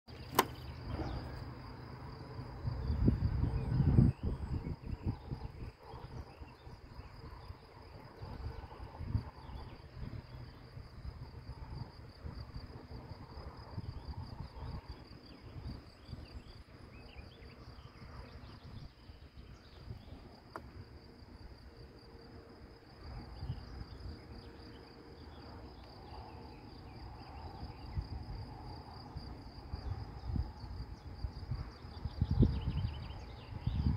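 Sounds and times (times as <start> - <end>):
insects chirring: 0.1 - 33.9
wind gusting on microphone: 0.4 - 33.9.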